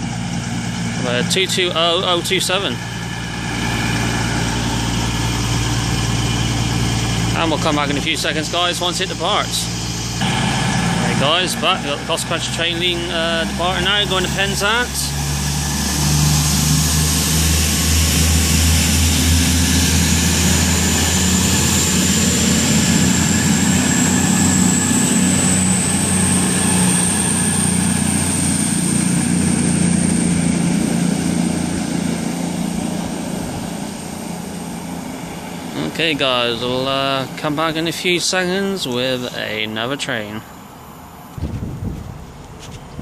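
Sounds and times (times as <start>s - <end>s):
diesel train engines droning: 0.0s - 43.0s
high engine whine rising in pitch: 0.0s - 43.0s.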